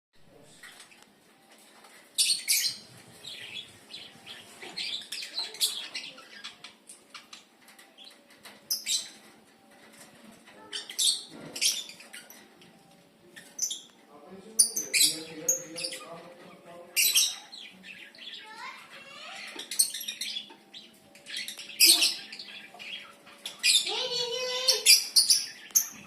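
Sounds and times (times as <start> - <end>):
lovebirds chirping: 0.3 - 26.0.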